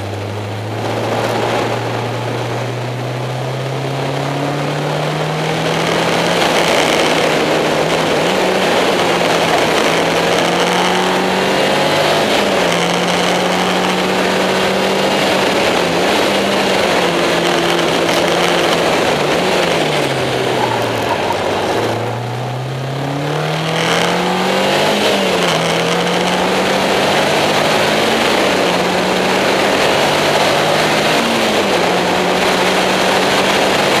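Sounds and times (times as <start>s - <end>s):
sports car engine revving: 0.0s - 34.0s
wind and road noise: 0.0s - 34.0s.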